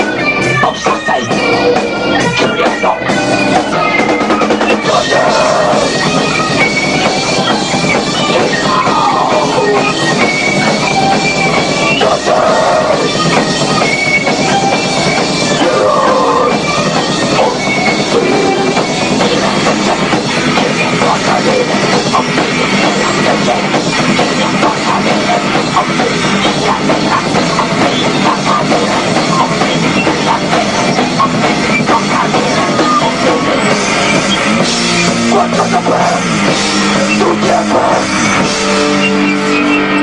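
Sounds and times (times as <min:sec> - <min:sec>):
distorted electric guitar: 0:00.0 - 0:40.0
drum kit: 0:00.0 - 0:40.0.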